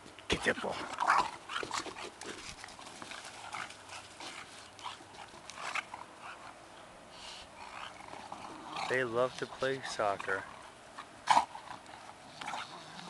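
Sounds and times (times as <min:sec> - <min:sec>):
dogs breathing: 0:00.7 - 0:13.0.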